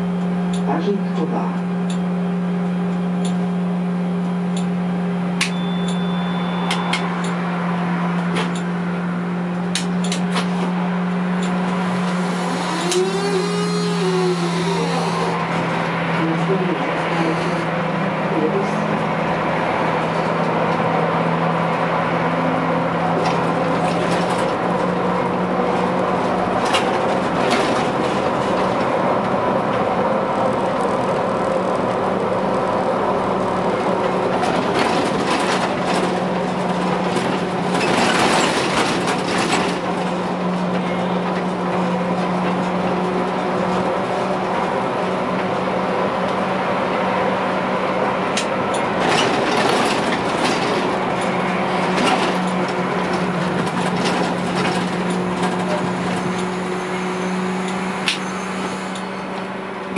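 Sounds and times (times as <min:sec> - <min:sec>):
road and running noise: 0:00.0 - 0:59.9.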